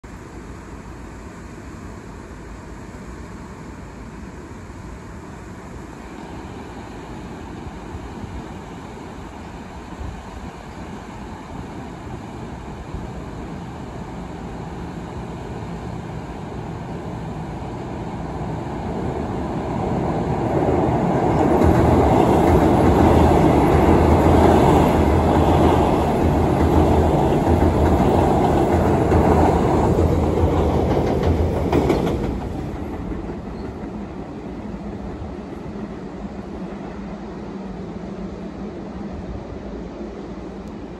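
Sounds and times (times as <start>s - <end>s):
electric train crossing bridge: 0.0s - 40.9s.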